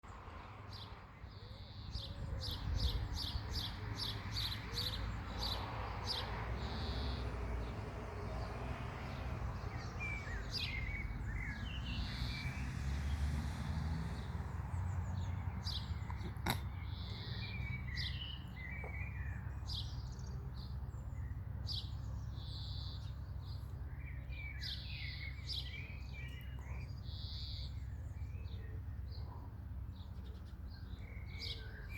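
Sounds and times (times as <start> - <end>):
small birds chirping: 0.7 - 31.9.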